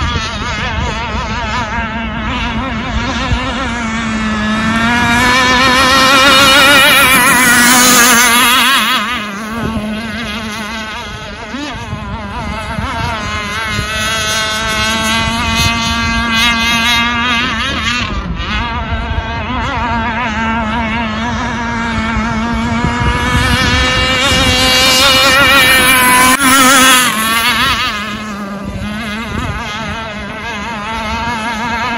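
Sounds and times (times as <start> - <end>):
rc boat motor running: 0.0 - 31.9.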